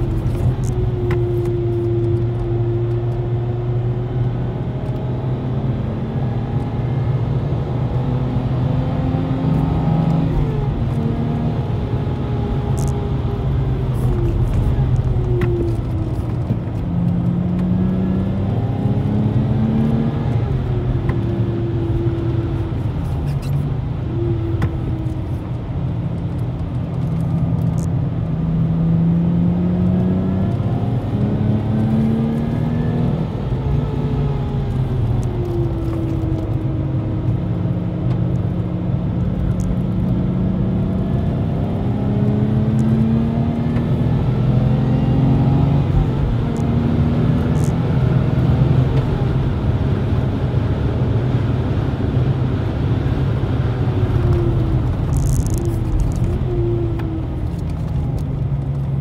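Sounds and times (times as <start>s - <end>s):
car engine revving: 0.0s - 59.0s
road and tyre rumble: 0.0s - 59.0s.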